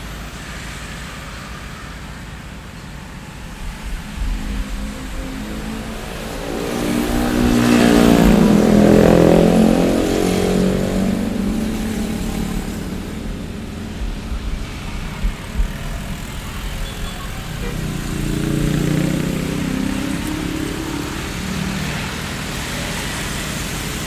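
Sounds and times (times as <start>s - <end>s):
street traffic noise: 0.0s - 24.0s
vehicle driving past: 3.0s - 23.4s.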